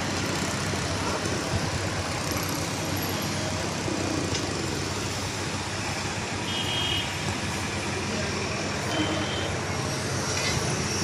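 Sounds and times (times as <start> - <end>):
engine running steadily: 0.0 - 11.0
outdoor background noise: 0.0 - 11.0.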